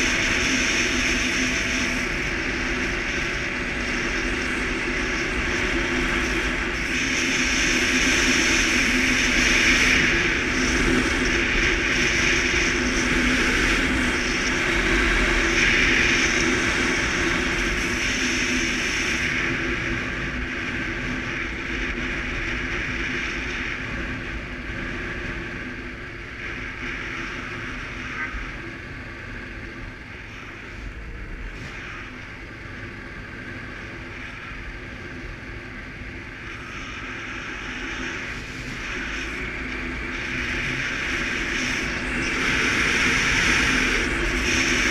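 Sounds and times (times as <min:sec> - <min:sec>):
atv engine running: 0:00.0 - 0:44.9
wind rushing over microphone: 0:00.0 - 0:44.9.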